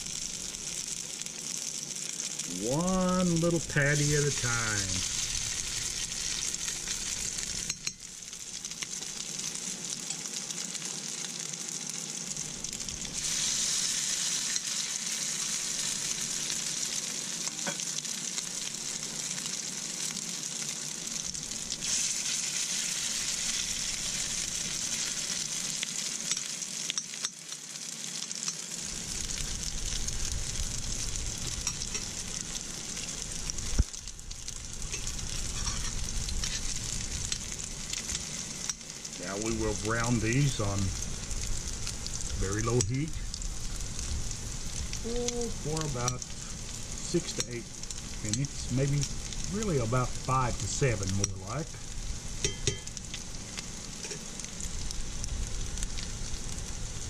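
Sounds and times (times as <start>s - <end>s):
patties sizzling in oil: 0.0s - 57.0s.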